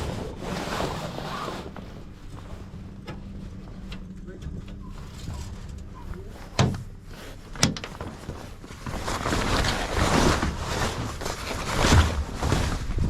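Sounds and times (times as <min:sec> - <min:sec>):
loud even rustling: 0:00.0 - 0:13.0.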